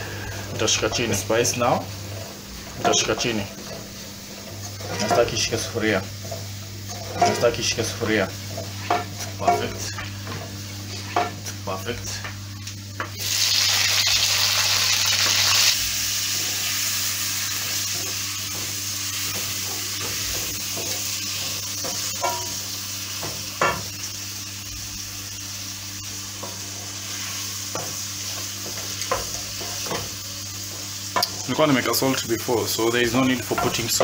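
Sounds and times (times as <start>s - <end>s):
tomatoes sizzling in frying pan: 0.0s - 34.0s.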